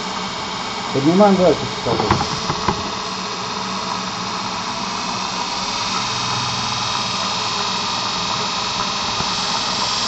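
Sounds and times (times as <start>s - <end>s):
electric motor whirring hum: 0.0s - 10.0s.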